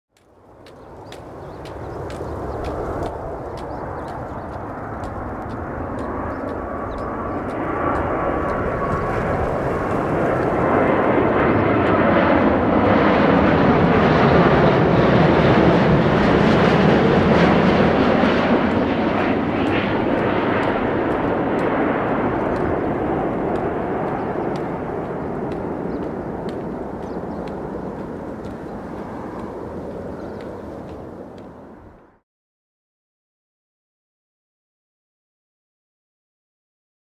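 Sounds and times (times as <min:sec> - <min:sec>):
jet engine roar overhead: 0:00.2 - 0:32.2.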